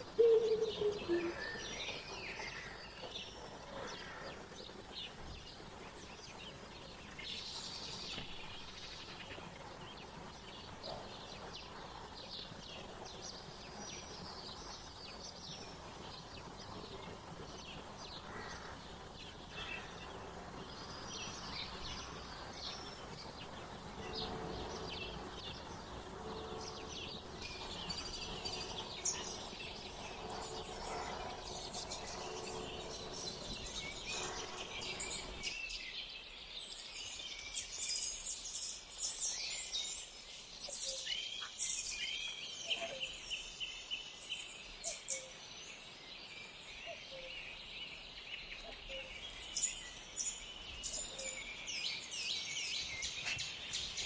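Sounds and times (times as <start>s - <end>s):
outdoor background noise: 0.0s - 54.0s
songbirds chirping: 0.0s - 54.0s.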